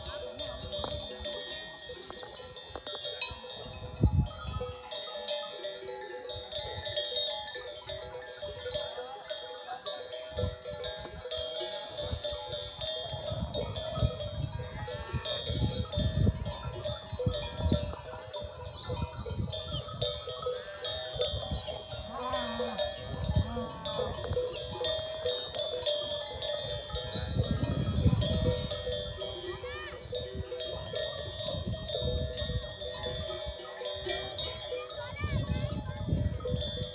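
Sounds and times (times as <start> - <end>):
livestock bells clanking: 0.0 - 36.9.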